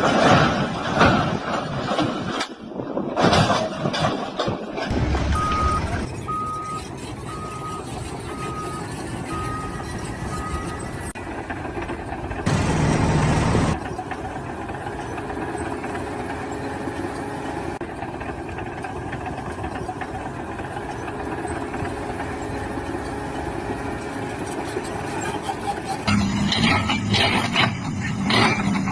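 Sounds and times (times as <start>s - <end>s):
heavy machinery engine running: 4.4s - 28.9s.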